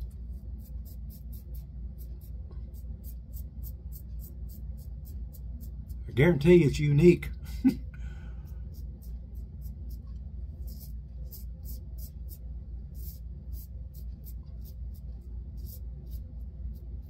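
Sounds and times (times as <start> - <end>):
low steady hum: 0.0 - 17.0
razor scraping stubble: 0.1 - 7.0, 8.5 - 17.0.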